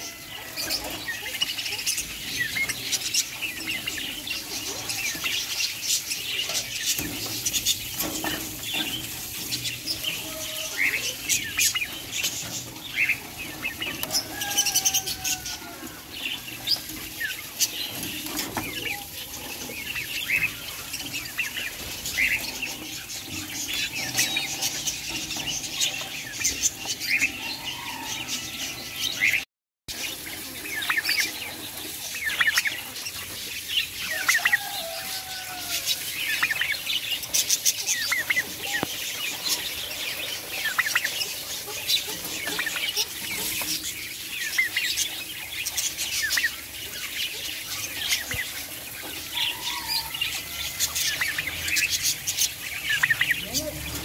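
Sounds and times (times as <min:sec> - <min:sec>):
drawn-out sliding bird calls: 0:00.0 - 0:29.4, 0:30.0 - 0:54.0
caged birds chirping: 0:00.0 - 0:54.0.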